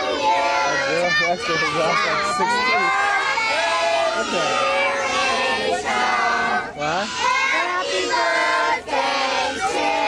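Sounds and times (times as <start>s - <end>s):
children shouting and cheering: 0.0s - 10.0s.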